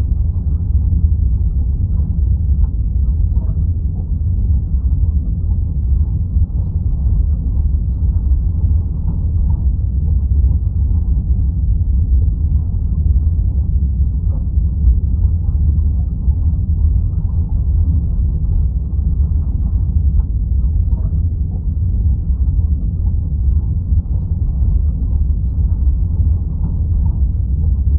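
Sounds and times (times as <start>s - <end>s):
underwater low rumble: 0.0s - 27.9s.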